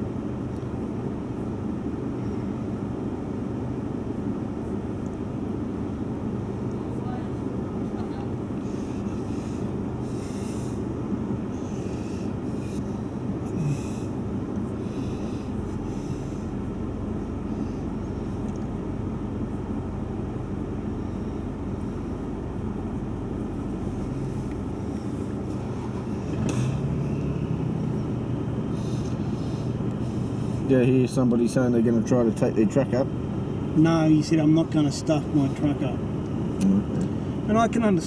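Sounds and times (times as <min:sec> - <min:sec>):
engine idling low rumble: 0:00.0 - 0:38.0.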